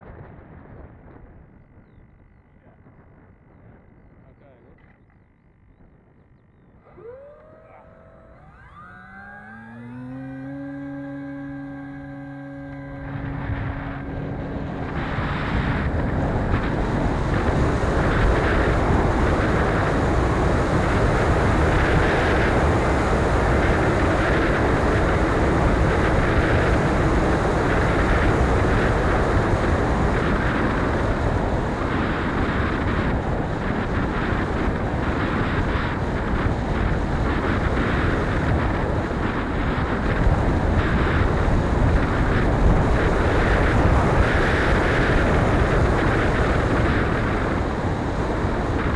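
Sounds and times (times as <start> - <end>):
wind buffeting microphone: 5.7 - 48.9.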